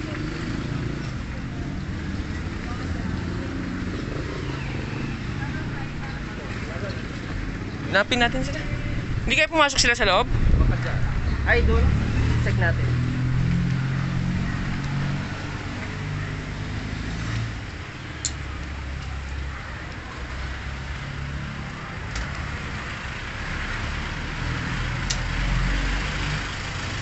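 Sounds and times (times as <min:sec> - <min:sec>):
vehicle engines humming: 0:00.0 - 0:27.0.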